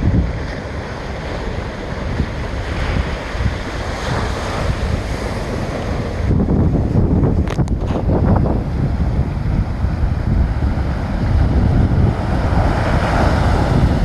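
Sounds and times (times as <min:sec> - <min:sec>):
ocean waves crashing: 0:00.0 - 0:14.0
wind buffeting microphone: 0:00.0 - 0:14.0.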